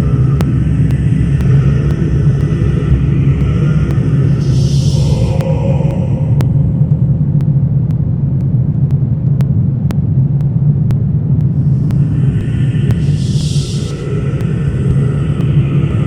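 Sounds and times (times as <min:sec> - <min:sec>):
faint sharp ticks: 0:00.0 - 0:16.0
low rumbling drone: 0:00.0 - 0:16.0.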